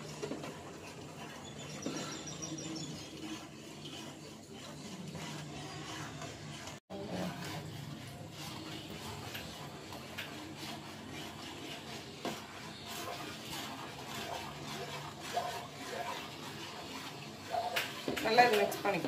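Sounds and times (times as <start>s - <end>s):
metal spoon scraping a pan: 0.0s - 19.0s.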